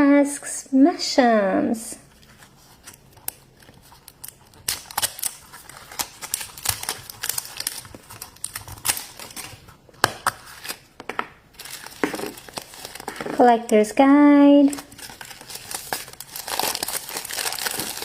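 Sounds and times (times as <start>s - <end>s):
plastic wrapper tearing and crinkling: 2.1s - 13.5s, 14.6s - 18.0s.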